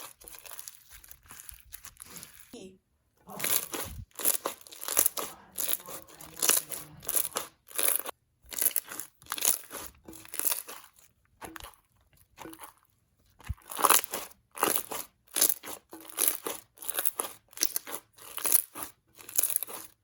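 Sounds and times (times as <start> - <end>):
slime with beads crunching: 0.0 - 2.6, 3.3 - 20.0.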